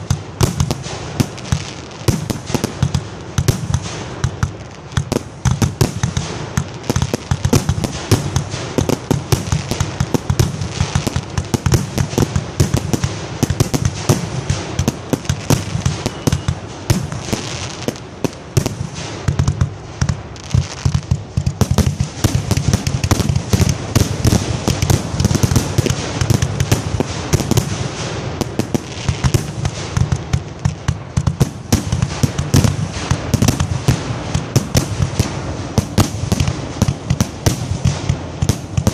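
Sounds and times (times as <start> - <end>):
fireworks barrage of bangs: 0.0 - 38.9.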